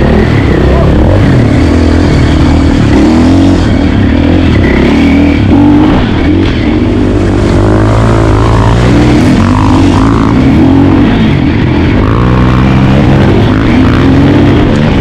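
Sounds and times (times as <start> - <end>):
engine running with wavering revs: 0.0 - 15.0.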